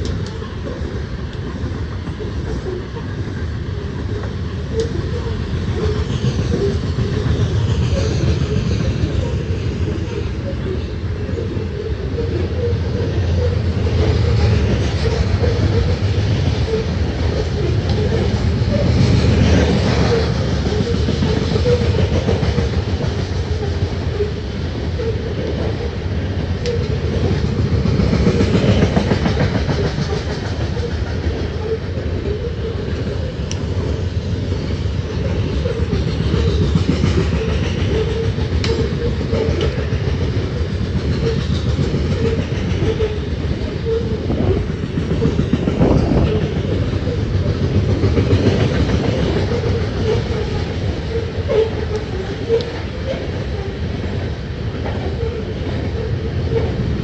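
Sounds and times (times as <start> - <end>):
steel wheels on rail: 0.0 - 57.0.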